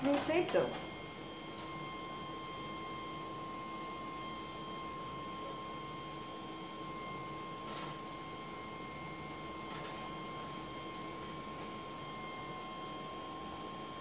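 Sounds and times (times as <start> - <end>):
fan whining tones: 0.0 - 14.0
three d printer hum: 0.0 - 14.0.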